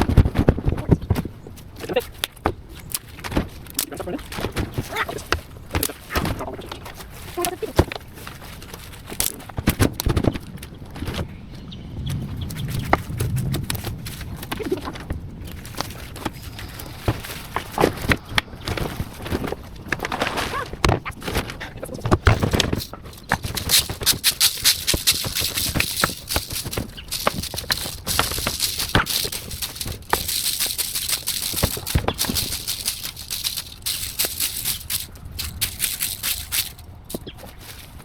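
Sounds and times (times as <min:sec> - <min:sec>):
branches and leaves rustling: 0:00.0 - 0:38.0.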